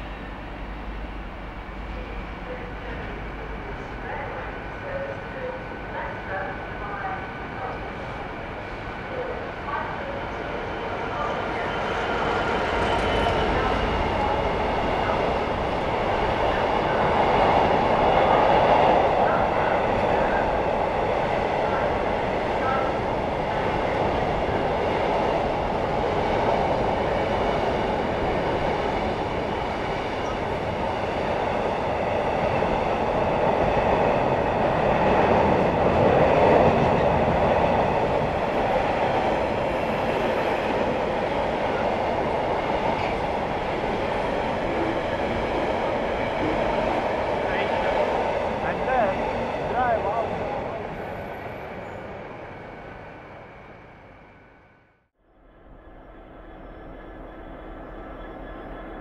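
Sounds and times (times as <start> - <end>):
freight train rolling on rails: 0.0 - 54.8, 55.4 - 59.0.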